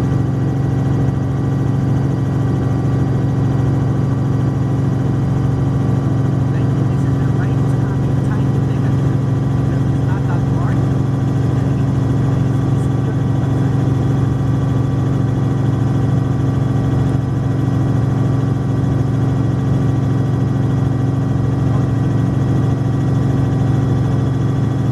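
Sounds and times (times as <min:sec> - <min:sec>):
helicopter engine and rotor drone: 0:00.0 - 0:24.9.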